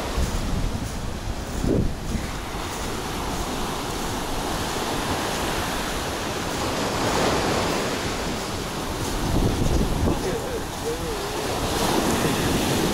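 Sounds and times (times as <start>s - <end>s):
sea surf breaking on beach: 0.0s - 12.9s
wind buffeting microphone: 0.0s - 12.9s.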